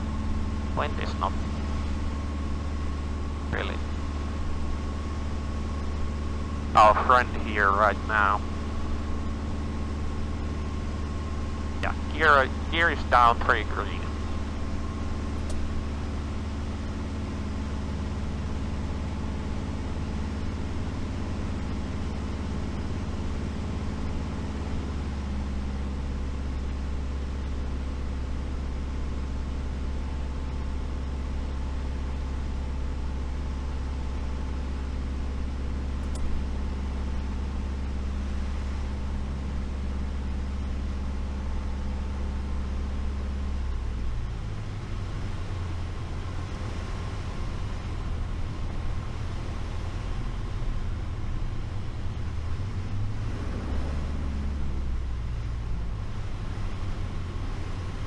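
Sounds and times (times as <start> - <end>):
aircraft engine and propeller droning: 0.0 - 58.0.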